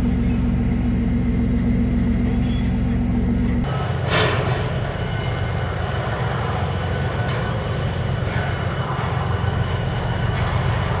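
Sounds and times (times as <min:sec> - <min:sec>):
faint high whine: 0:00.0 - 0:11.0
low engine drone: 0:00.0 - 0:11.0.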